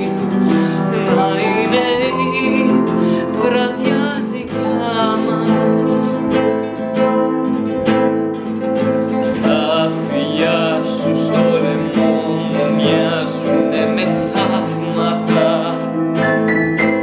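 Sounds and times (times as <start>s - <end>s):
man singing: 0.0s - 6.8s, 9.2s - 16.4s
classical guitar strummed: 0.0s - 17.0s.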